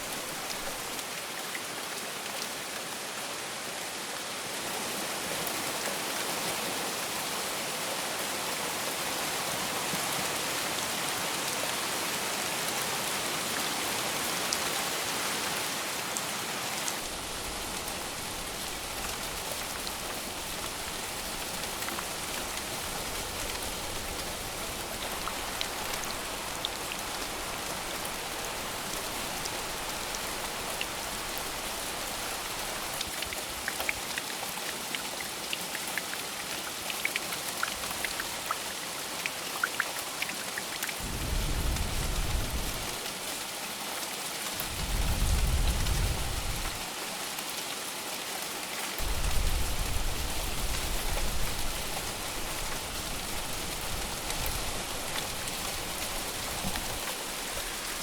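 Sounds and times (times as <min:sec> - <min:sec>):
dense rain pattering: 0:00.0 - 0:58.0.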